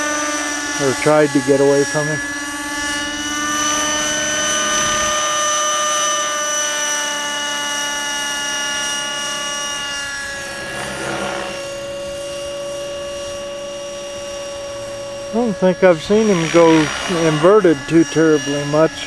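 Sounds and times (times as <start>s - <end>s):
model helicopter engine and rotors whining: 0.0s - 19.0s.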